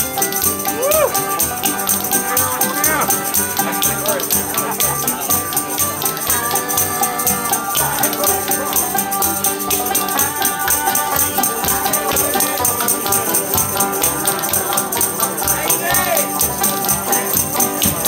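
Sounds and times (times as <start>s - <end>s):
acoustic guitar: 0.0s - 18.0s
banjo: 0.0s - 18.0s.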